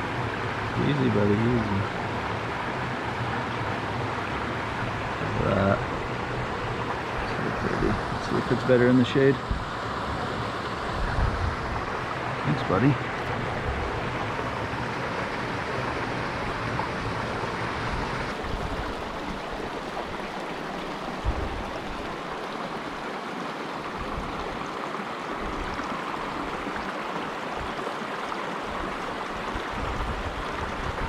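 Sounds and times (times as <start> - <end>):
stream flowing: 0.0 - 31.0.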